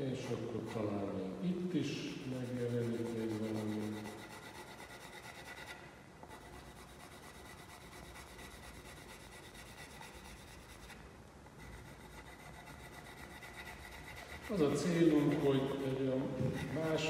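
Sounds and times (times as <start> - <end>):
pencil scratching on paper: 0.0 - 1.1, 2.3 - 17.0.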